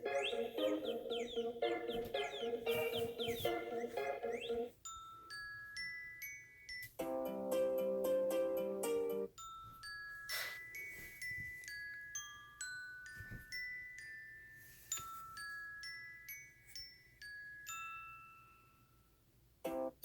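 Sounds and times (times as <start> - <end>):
bell-like glockenspiel ringtone: 0.0 - 19.3.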